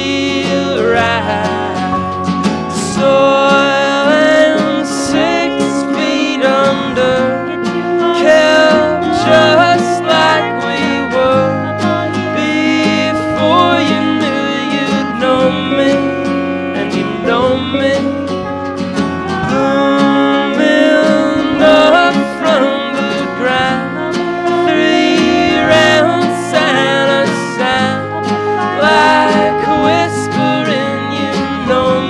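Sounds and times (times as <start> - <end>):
acoustic folk band playing: 0.0 - 32.0
plucked guitar strings: 0.0 - 32.0.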